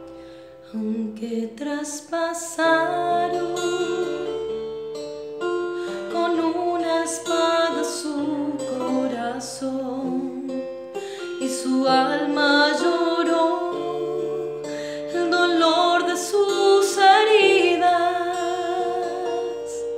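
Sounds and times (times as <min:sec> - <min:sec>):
guitar accompaniment: 0:00.0 - 0:19.9
woman singing: 0:00.7 - 0:04.7, 0:05.8 - 0:19.9.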